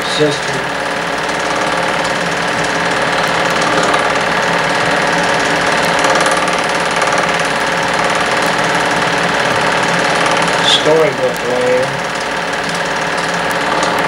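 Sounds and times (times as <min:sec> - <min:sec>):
film projector whirring and rattling: 0:00.0 - 0:14.0.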